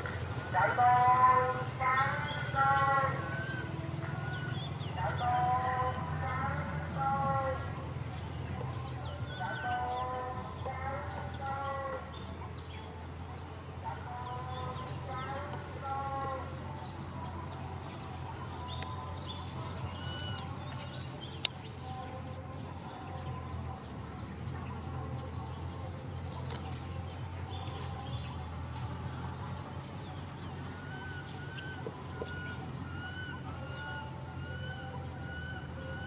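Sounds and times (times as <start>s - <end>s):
chirping calls: 0.0s - 36.0s
steady low hum: 0.0s - 36.0s.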